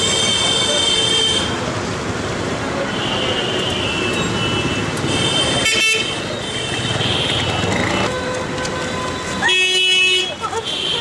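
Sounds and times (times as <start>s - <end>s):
traffic engine noise: 0.0s - 11.0s.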